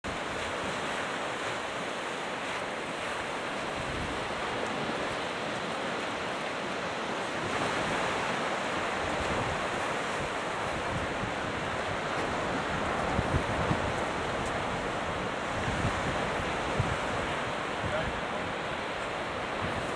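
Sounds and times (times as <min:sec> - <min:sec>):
surf breaking on beach: 0:00.1 - 0:19.9
wind on microphone: 0:00.1 - 0:19.9.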